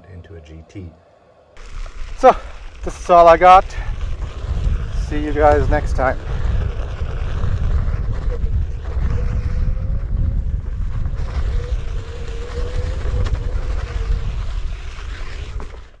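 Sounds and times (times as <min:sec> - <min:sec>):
electric motor whine: 0:01.6 - 0:16.0
tyre rumble: 0:01.6 - 0:16.0
wind buffeting microphone: 0:01.6 - 0:16.0.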